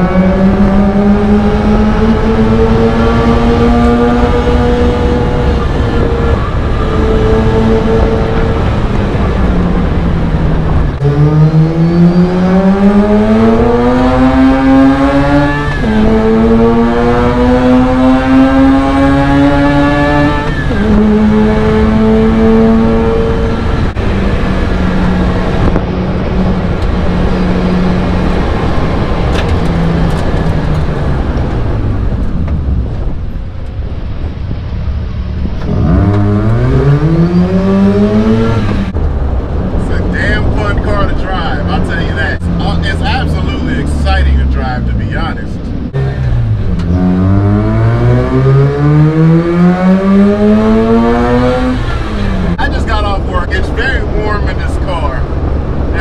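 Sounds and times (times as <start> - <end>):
rotary engine accelerating: 0.0 - 56.0.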